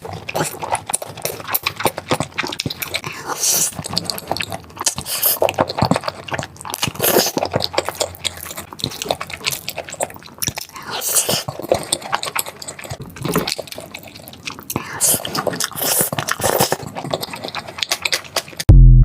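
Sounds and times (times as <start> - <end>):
wet chewing and biting: 0.0 - 18.7.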